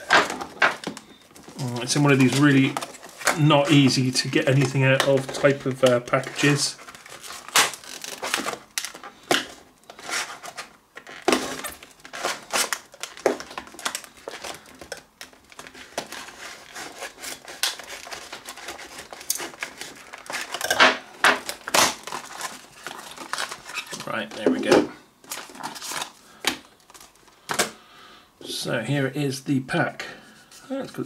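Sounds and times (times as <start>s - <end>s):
plastic packaging crackling: 0.0s - 27.7s.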